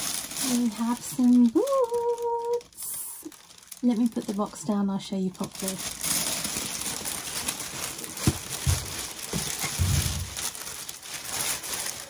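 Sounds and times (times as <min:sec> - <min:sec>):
tissue paper rustling: 0:00.0 - 0:12.0.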